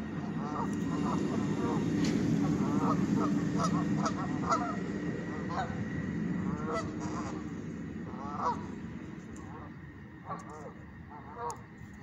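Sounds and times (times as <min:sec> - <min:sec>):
steady low rumble: 0:00.0 - 0:12.0
geese honking: 0:00.2 - 0:08.8, 0:09.4 - 0:11.6.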